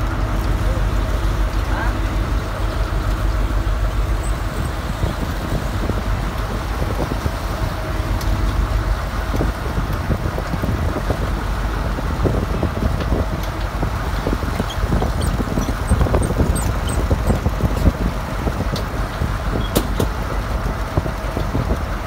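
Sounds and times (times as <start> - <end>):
boat engine running: 0.0 - 22.0
wake churning and rushing: 0.0 - 22.0.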